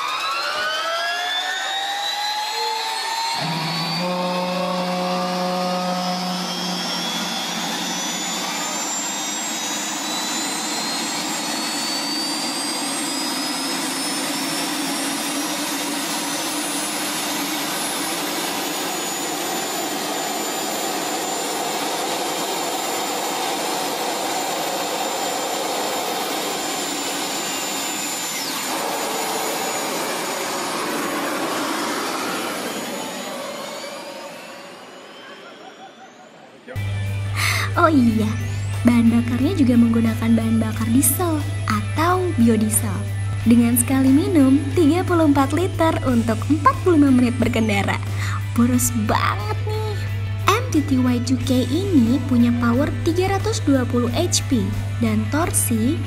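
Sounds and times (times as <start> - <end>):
turbine engine whine: 0.0 - 56.0
low hum: 1.3 - 56.0.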